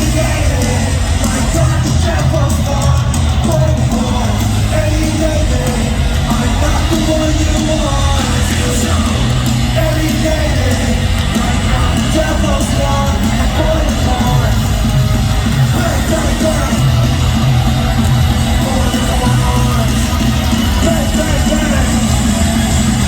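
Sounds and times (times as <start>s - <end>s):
distorted electric guitars: 0.0s - 23.0s
drums: 0.0s - 23.0s
shouted and sung vocals: 0.0s - 23.0s.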